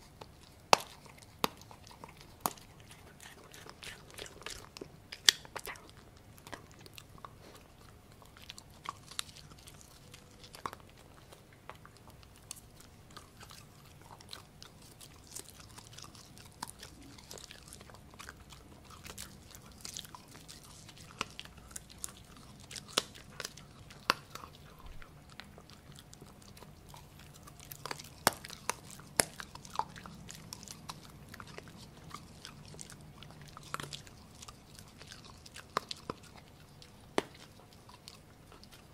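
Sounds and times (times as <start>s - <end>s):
puppy chewing and crunching meat: 0.0s - 38.9s.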